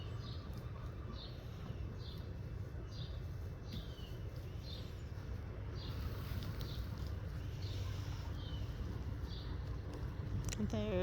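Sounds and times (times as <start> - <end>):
bird chirping: 0.0 - 11.0
steady low rumble: 0.0 - 11.0.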